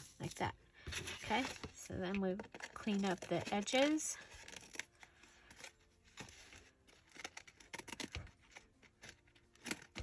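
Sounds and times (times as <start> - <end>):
paper rustling and clicking: 0.9 - 10.0.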